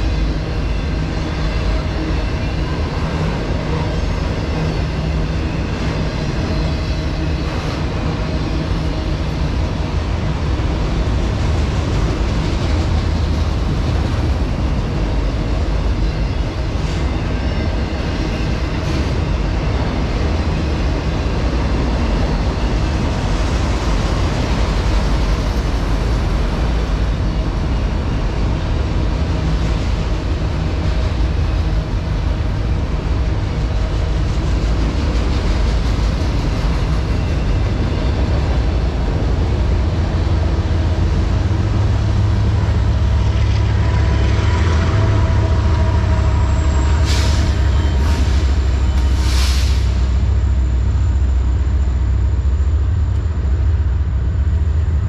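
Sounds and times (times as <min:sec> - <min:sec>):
freight train wheels clattering on rail: 0:00.0 - 0:51.0
diesel locomotive drone: 0:00.0 - 0:55.0.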